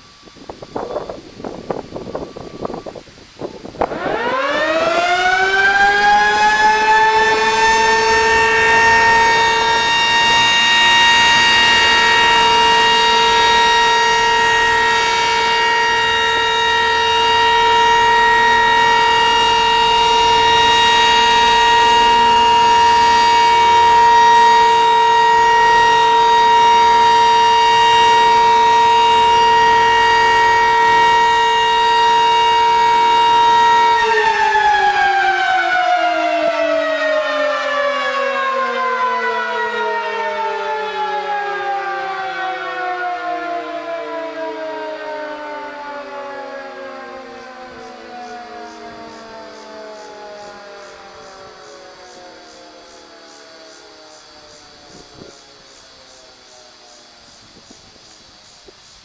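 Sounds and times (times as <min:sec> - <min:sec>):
dual-tone warning siren: 0:00.0 - 0:59.0.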